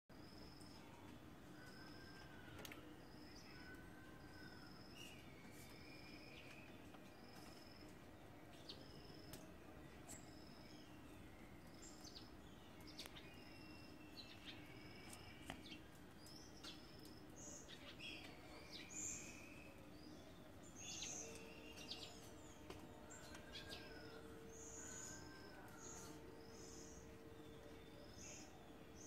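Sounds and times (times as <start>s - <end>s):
small birds chirping: 0.1s - 29.0s
steady low hum: 0.1s - 29.0s.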